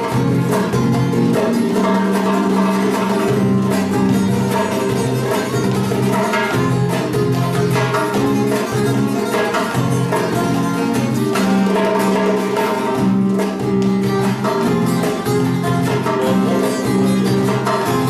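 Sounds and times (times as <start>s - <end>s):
guitar notes: 0.0s - 18.0s
hand drum rhythm: 0.0s - 18.0s
plucked lute: 0.0s - 18.0s.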